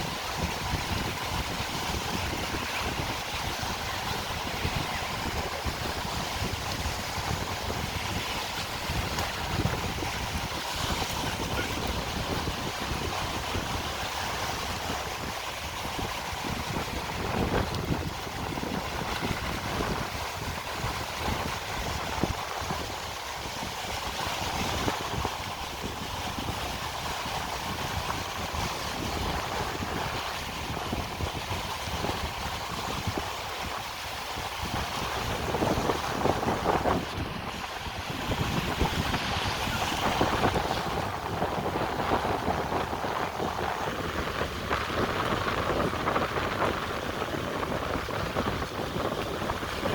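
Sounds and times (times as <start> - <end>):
sea waves washing: 0.0 - 49.9
wind buffeting microphone: 0.0 - 49.9.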